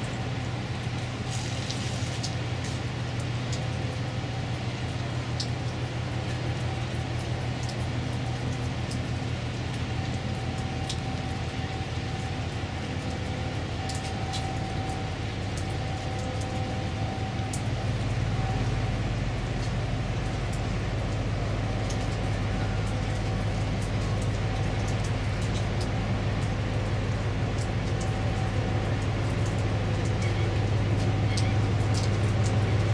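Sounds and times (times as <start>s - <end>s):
ship engines droning: 0.0s - 32.9s.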